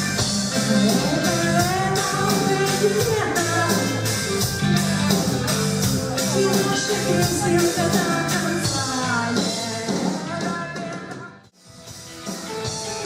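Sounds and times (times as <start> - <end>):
drums keeping a steady beat: 0.0 - 13.0
live rock band playing: 0.0 - 13.0.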